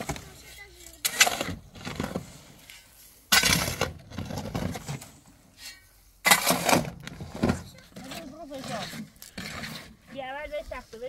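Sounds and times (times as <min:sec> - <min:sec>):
shovel scraping sand off metal: 0:00.6 - 0:07.4, 0:08.0 - 0:11.0.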